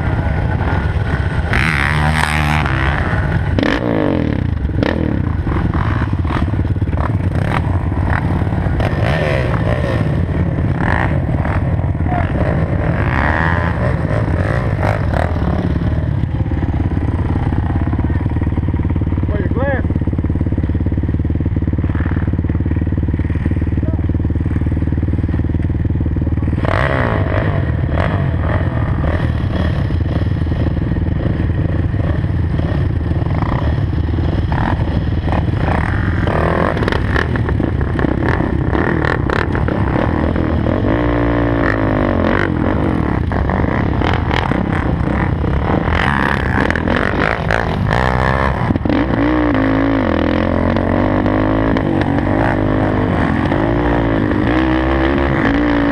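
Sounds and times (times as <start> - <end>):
quad engines idling and revving: 0.0 - 55.9.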